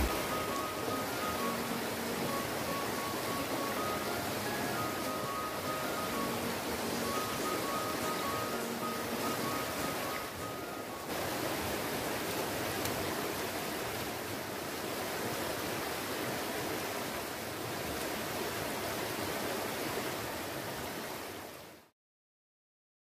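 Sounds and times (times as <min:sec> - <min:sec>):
river rushing over stones: 0:00.0 - 0:21.8.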